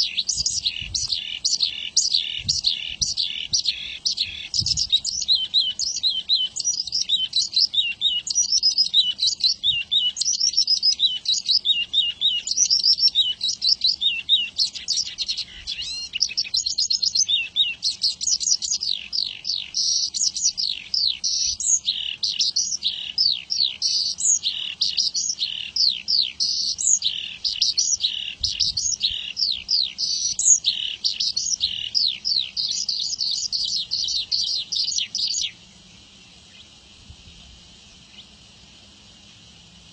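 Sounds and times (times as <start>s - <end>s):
bird singing rapid chirps and trills: 0.0s - 36.8s.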